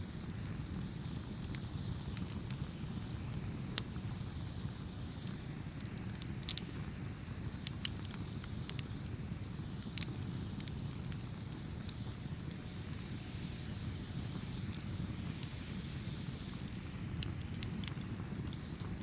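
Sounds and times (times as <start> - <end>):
campfire low rumble: 0.0 - 19.0
wood crackling and popping: 0.0 - 19.0.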